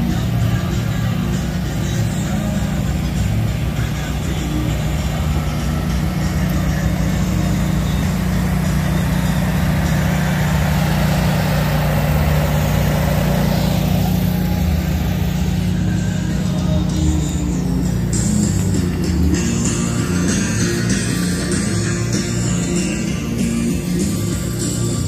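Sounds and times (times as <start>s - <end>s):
generator humming: 0.0s - 25.0s.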